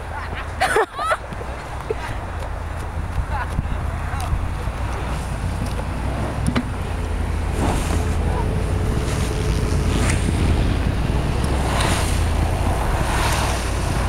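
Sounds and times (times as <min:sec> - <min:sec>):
truck engine running: 0:00.0 - 0:14.0
tyres spinning in snow: 0:00.0 - 0:14.0.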